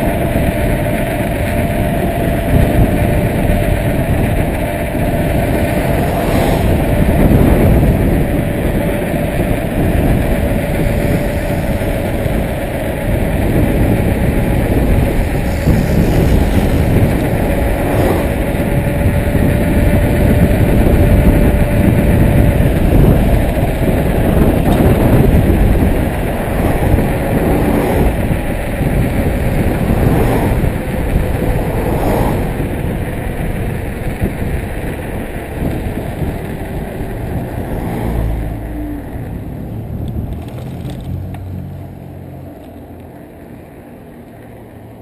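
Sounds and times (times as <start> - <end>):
wind rushing over microphone: 0.0 - 42.4
low vehicle engine hum: 0.0 - 45.0
tyre noise on asphalt: 0.0 - 45.0.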